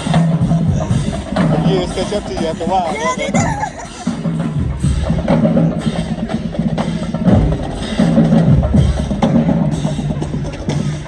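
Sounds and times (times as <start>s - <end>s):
bass drums: 0.0s - 11.0s
snare drums: 0.0s - 11.0s.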